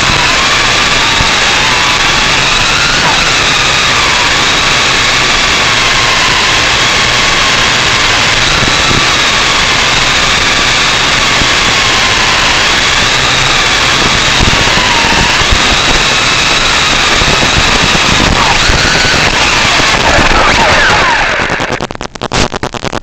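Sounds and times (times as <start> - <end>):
drone motors whining: 0.0 - 21.9
loud steady hiss: 0.0 - 23.0.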